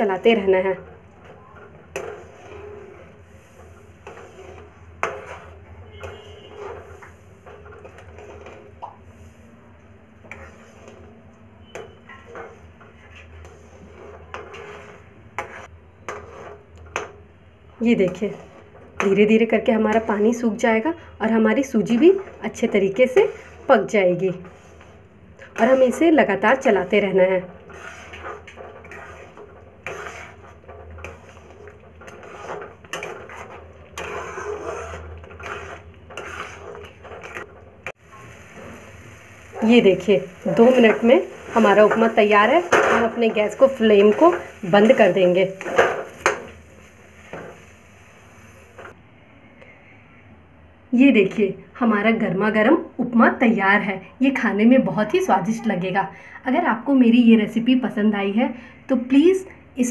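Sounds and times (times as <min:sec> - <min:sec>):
spatula stirring and scraping: 0:00.0 - 0:49.0.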